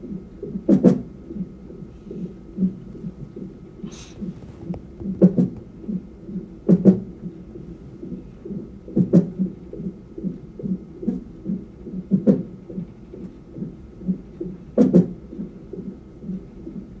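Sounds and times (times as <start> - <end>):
fetal heartbeat on doppler monitor: 0.0 - 17.0.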